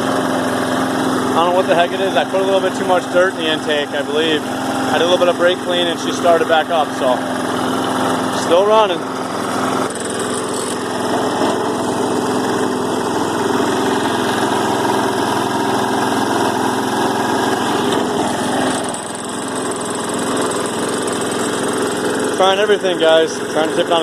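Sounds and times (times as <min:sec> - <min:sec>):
push mower engine running: 0:00.0 - 0:24.0.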